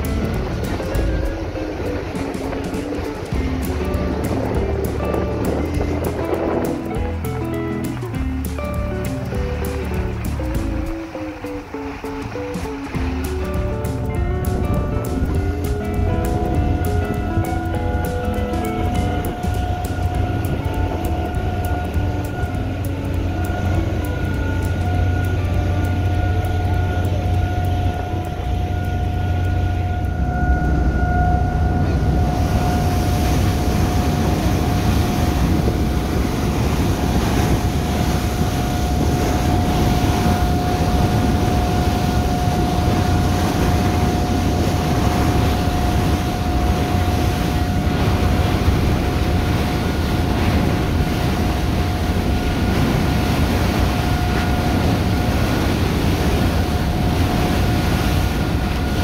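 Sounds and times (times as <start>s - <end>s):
constant high whine: 0.0s - 59.0s
ship machinery hum: 0.0s - 59.0s
water spraying off hull: 0.0s - 59.0s
wind on microphone: 0.0s - 59.0s.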